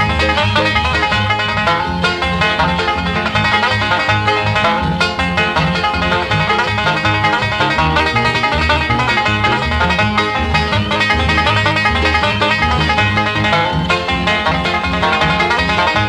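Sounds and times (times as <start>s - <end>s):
plucked banjo: 0.0s - 16.0s
rhythmic bass line: 0.0s - 16.0s.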